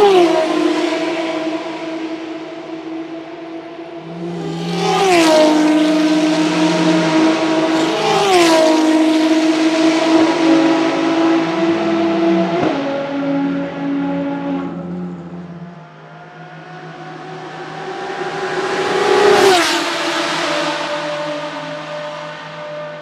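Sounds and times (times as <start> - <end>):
race car engine at full throttle: 0.0 - 23.0.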